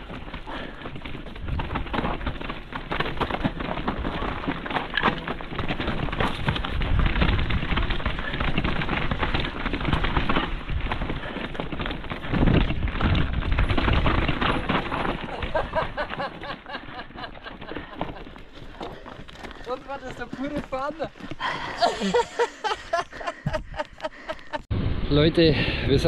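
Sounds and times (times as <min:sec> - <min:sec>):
bike rattling: 0:00.0 - 0:24.6
tyres crackling over stones: 0:00.0 - 0:24.6.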